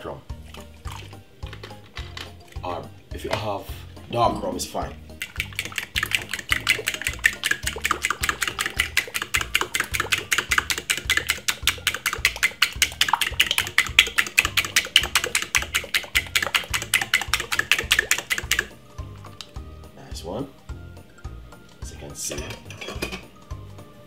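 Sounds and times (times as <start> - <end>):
background music: 0.0 - 24.0.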